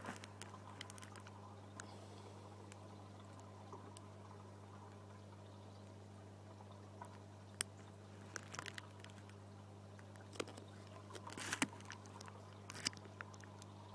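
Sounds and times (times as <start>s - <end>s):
faint low hum: 0.0s - 13.9s
small clicks and crackles: 0.0s - 13.9s.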